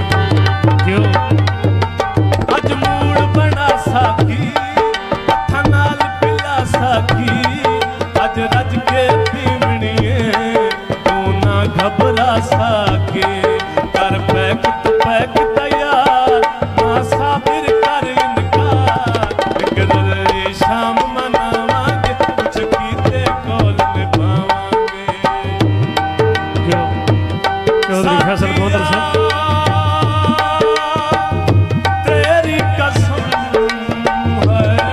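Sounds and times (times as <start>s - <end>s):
hand drum rhythm: 0.0s - 34.9s
harmonium melody: 0.0s - 34.9s.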